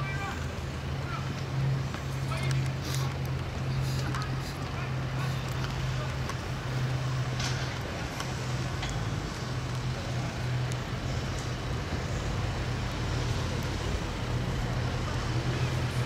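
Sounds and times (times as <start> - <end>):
low mechanical hum: 0.0 - 16.0
outdoor background noise: 0.0 - 16.0.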